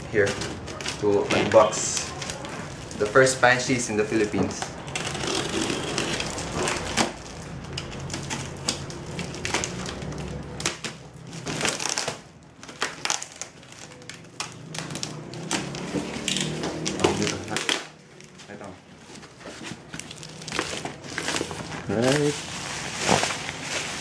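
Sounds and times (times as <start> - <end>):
cardboard and plastic crinkling: 0.0 - 24.0.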